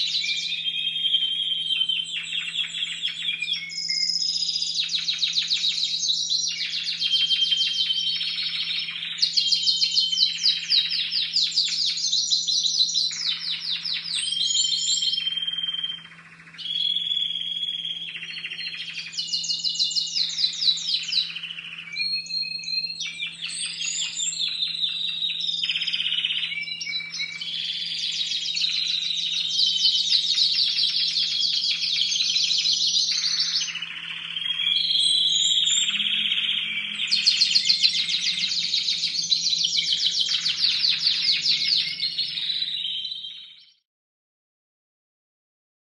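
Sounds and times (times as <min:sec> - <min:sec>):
canaries singing trills: 0:00.0 - 0:43.8.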